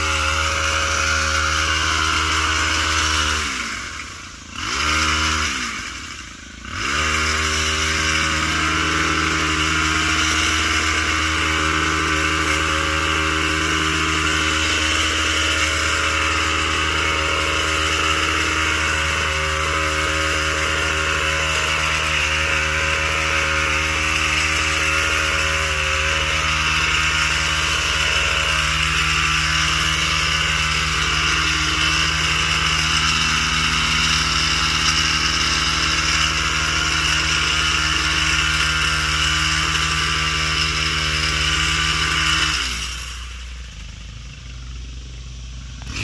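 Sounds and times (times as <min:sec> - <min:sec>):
small gas engine running: 0:00.0 - 0:46.0.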